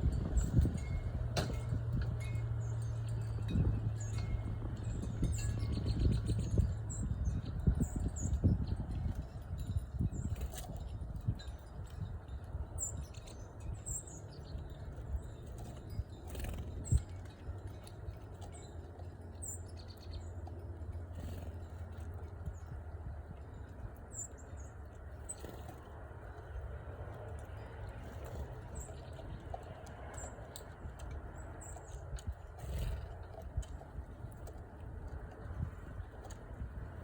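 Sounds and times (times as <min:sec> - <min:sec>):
steady low rumble: 0:00.0 - 0:37.0
small birds chirping: 0:02.2 - 0:37.0.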